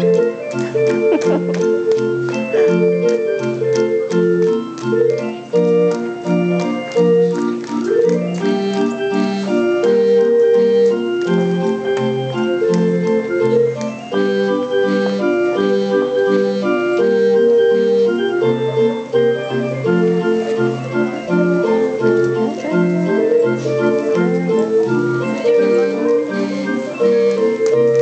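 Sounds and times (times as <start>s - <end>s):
barrel organ playing a tune: 0.0s - 28.0s.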